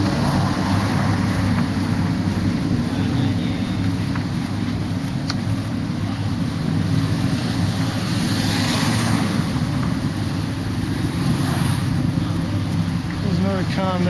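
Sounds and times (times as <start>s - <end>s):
street traffic passing: 0.0s - 14.0s
wind rumbling on microphone: 0.0s - 14.0s.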